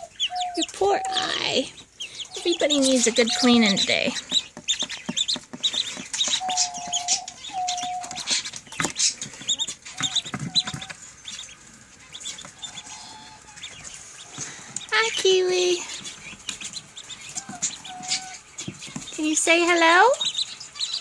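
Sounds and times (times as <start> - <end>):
low steady bird calls: 0.0 - 21.0
young birds peeping: 0.0 - 21.0.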